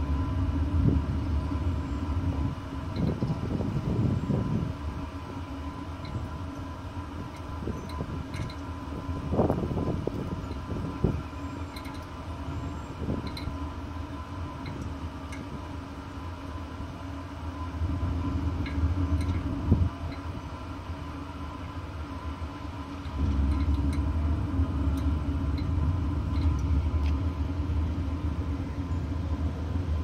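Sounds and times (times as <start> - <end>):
combustion fan humming: 0.0 - 30.0
fire rumbling: 0.0 - 30.0.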